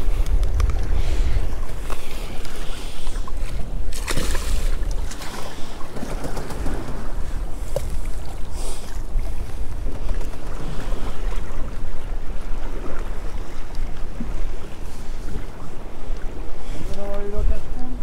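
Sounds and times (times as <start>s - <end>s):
sea washing against boat hull: 0.0s - 18.0s
wind rumbling on microphone: 0.0s - 18.0s.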